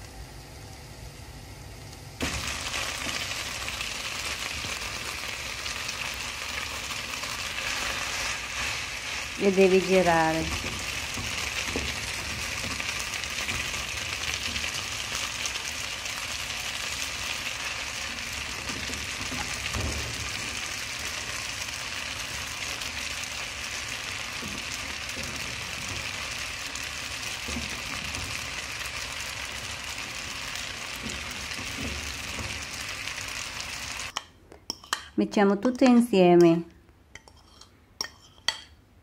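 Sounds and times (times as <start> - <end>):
pasta sizzling in a frying pan: 0.0 - 34.2.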